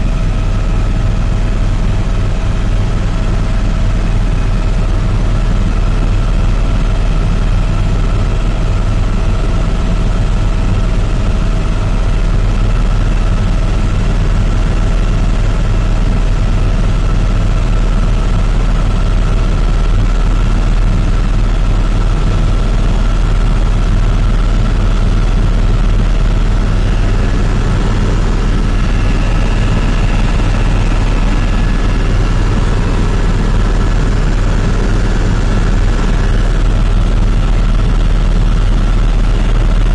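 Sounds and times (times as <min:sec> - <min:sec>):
constant whine: 0:00.0 - 0:39.9
helicopter rotor and engine rumble: 0:00.0 - 0:39.9.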